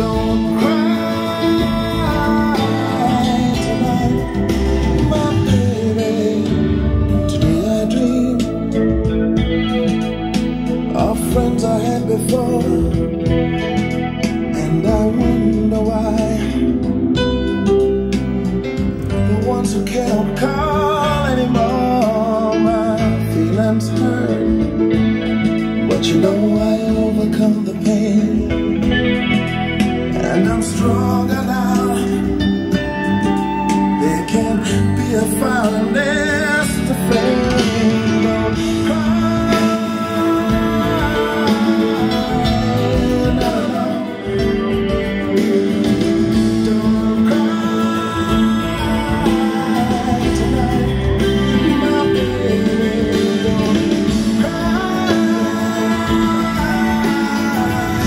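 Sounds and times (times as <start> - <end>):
guitar music over loudspeaker: 0.0 - 58.0.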